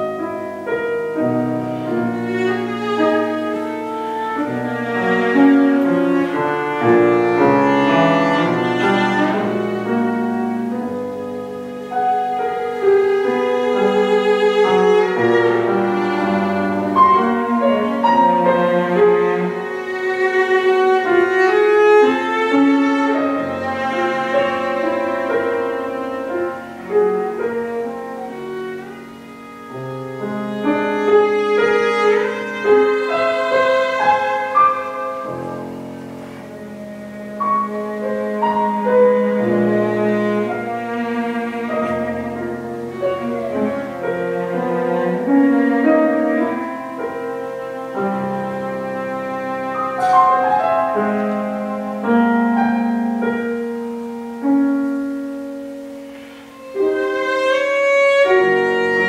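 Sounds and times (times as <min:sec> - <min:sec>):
bowed cello melody: 0:00.0 - 0:59.0
piano accompaniment: 0:00.0 - 0:59.0.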